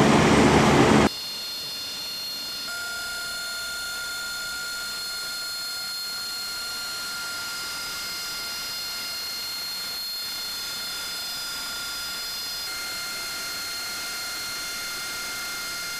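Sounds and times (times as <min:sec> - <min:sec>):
jet engine idling: 0:00.0 - 0:15.9.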